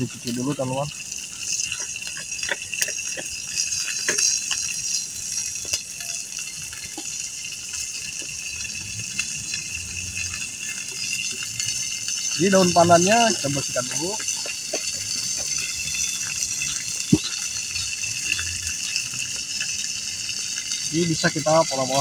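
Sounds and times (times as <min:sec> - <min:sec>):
campfire wood snapping: 0:00.0 - 0:22.0
steady high-pitched hiss: 0:00.0 - 0:22.0
water pouring over leaves: 0:00.0 - 0:22.0.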